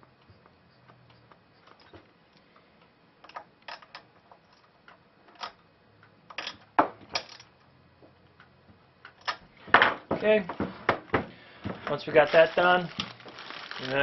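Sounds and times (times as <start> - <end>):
small parts clicking and knocking: 0.0 - 10.2, 11.1 - 14.0.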